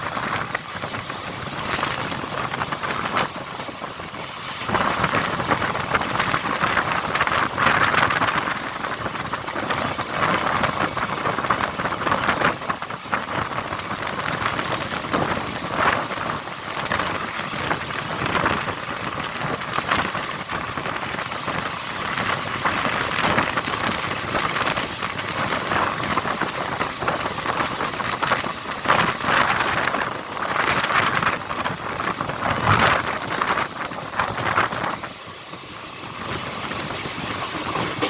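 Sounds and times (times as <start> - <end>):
train clicks and rattles: 0.0 - 38.0
train wheels rushing on rails: 0.0 - 38.0.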